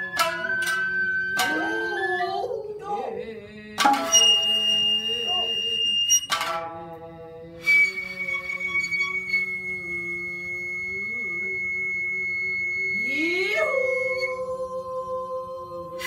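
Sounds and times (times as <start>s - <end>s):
person singing long notes: 0.0s - 16.0s.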